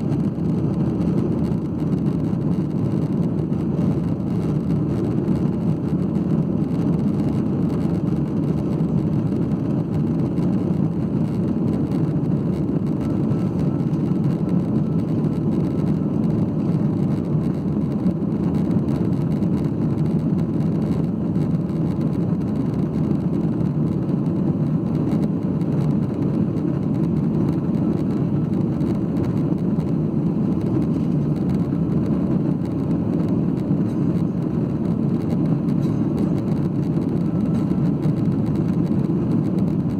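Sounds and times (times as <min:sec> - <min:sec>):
jet engines humming: 0:00.0 - 0:39.9
rush of airflow: 0:00.0 - 0:39.9.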